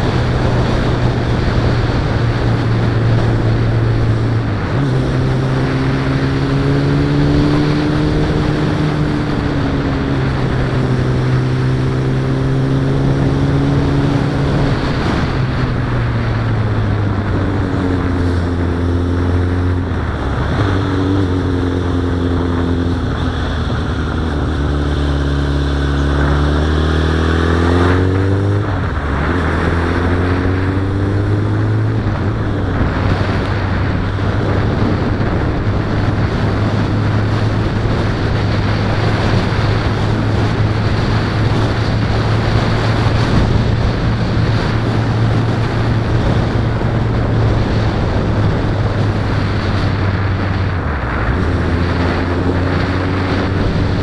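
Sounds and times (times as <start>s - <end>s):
motorcycle engine accelerating: 0.0s - 54.0s
wind rush on microphone: 0.0s - 54.0s.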